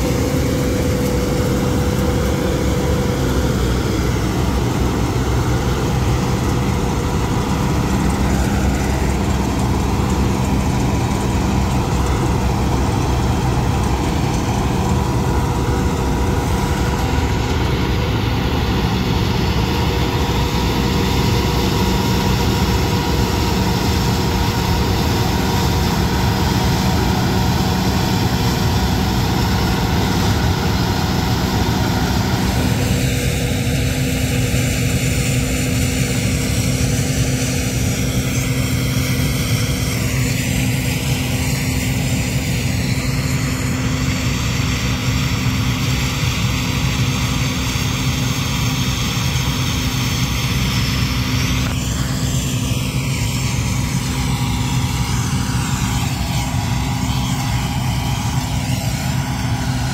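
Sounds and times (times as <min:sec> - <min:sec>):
diesel engine running: 0:00.0 - 0:59.9
high whine: 0:00.0 - 0:59.9.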